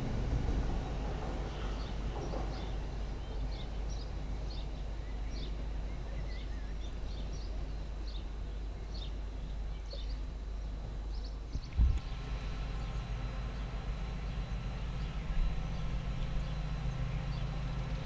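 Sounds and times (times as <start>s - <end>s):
low background rumble: 0.0s - 18.0s
small birds chirping: 1.5s - 18.0s.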